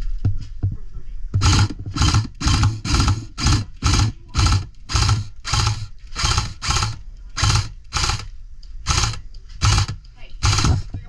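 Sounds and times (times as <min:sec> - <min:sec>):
rhythmic rustling thuds: 0:00.0 - 0:11.0.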